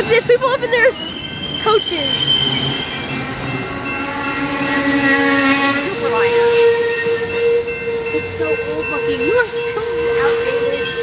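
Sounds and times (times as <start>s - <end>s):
train brakes squealing: 0.0s - 11.0s
train cars rolling slowly: 0.0s - 11.0s.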